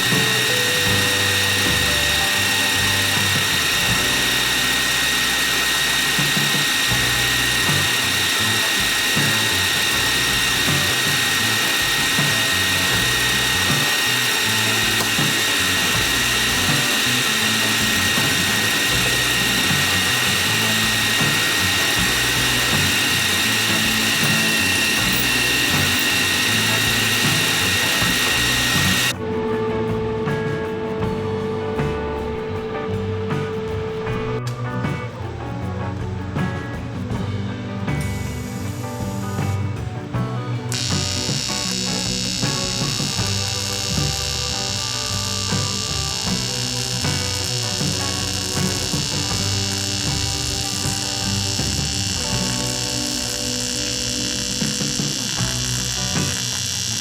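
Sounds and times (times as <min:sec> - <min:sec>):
lathe motor and gear whine: 0:00.0 - 0:30.6, 0:40.7 - 0:57.0.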